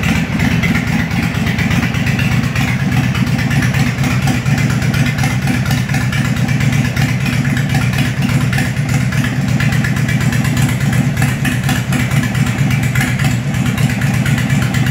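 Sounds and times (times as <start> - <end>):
motorcycle engine idling loudly: 0.0 - 14.9.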